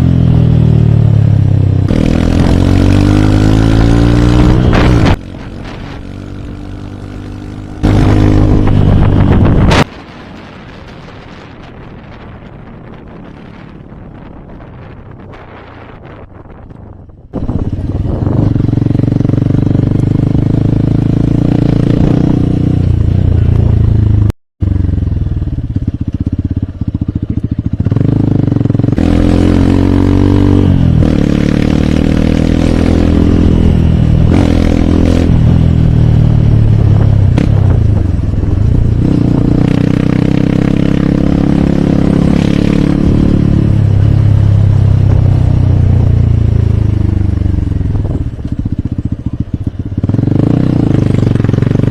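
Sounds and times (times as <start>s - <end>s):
motorcycle engine revving: 0.0s - 10.0s, 11.0s - 51.9s.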